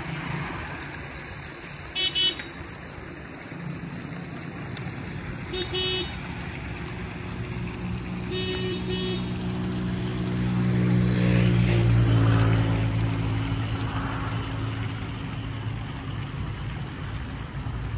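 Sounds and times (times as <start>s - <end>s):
vehicle engine passing: 0.0s - 17.9s.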